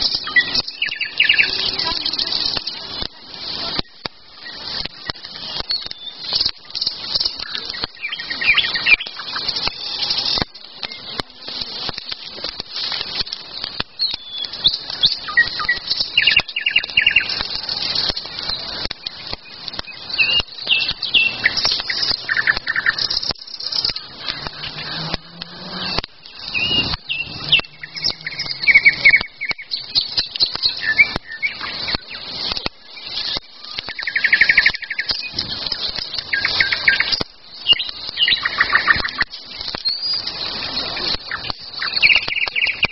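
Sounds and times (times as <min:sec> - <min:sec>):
sharp clicks: 0:00.0 - 0:40.4
songbirds singing: 0:00.0 - 0:42.9.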